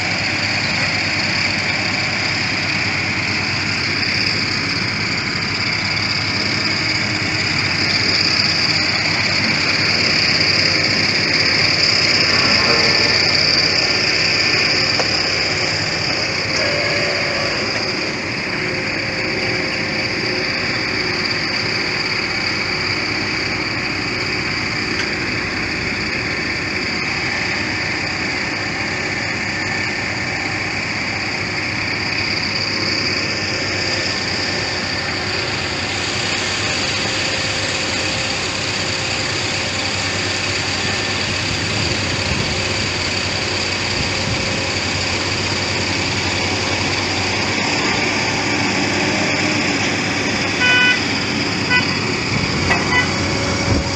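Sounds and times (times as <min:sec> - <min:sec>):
construction machinery engine drone: 0:00.0 - 0:53.9
high even whine: 0:00.0 - 0:53.9.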